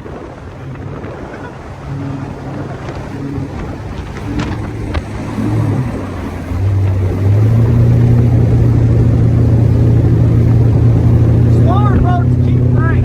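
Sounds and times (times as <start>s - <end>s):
speedboat engine running: 0.0s - 13.0s
wind and water noise: 0.0s - 13.0s.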